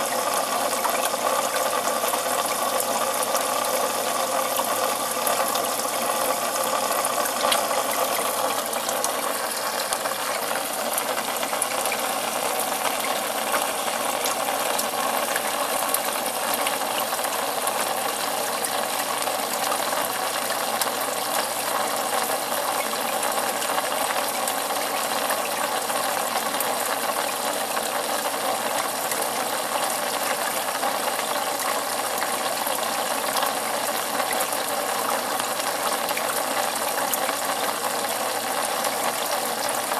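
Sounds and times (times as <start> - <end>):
aquarium water bubbling: 0.0 - 39.9.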